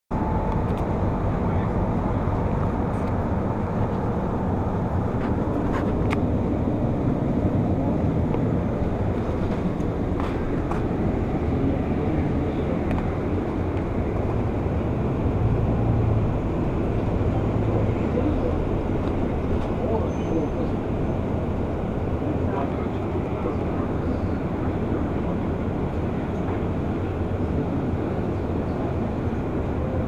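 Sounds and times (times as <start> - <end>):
bus engine rumbling: 0.1 - 30.0.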